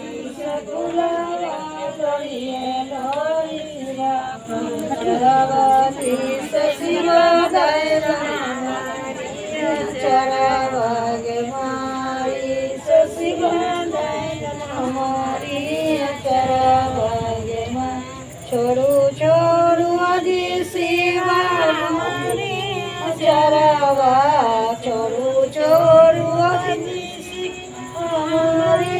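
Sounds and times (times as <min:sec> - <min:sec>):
women singing unaccompanied: 0:00.0 - 0:28.9.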